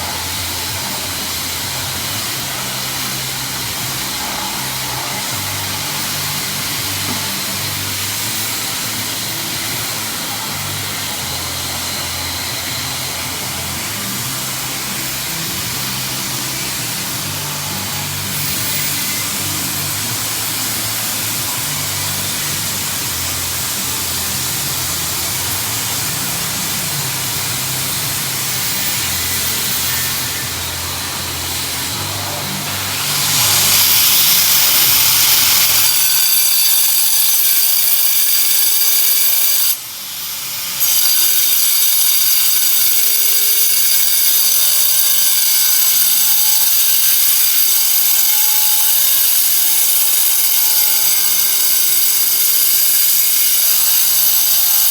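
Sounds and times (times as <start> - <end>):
high motor whine: 0.0 - 54.9
power tool cutting: 0.0 - 54.9.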